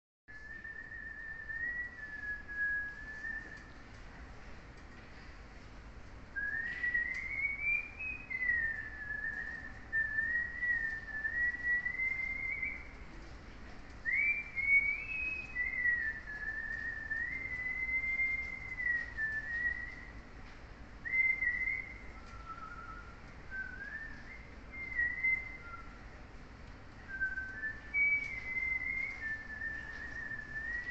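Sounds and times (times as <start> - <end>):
person whistling a tune: 0.3 - 3.8, 6.4 - 12.9, 14.0 - 20.1, 21.0 - 26.0, 27.1 - 30.9.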